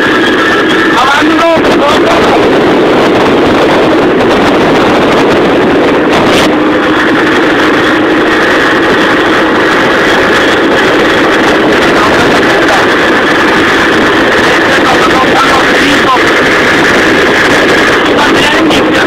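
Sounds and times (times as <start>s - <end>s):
wind rushing over microphone: 0.0s - 19.0s
motor scooter engine running: 2.5s - 19.0s.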